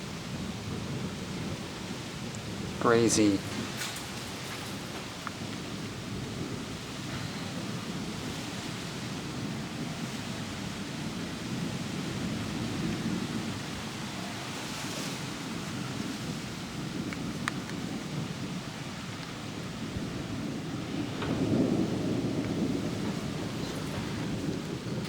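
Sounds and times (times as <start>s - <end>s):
rain hissing: 0.0s - 25.0s
thunder rumbling: 0.0s - 25.0s.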